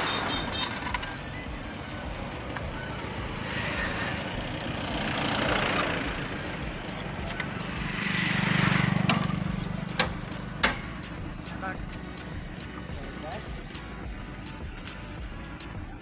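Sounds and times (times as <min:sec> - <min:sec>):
low engine hum: 0:00.0 - 0:16.0
vehicles passing on road: 0:00.0 - 0:16.0.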